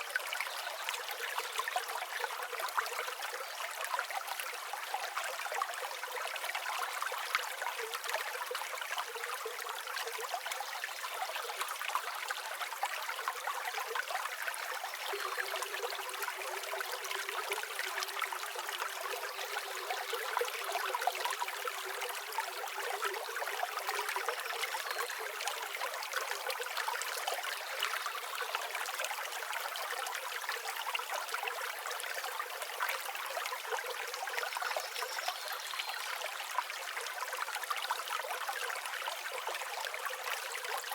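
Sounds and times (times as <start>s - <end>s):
small stream trickling: 0.0s - 40.9s.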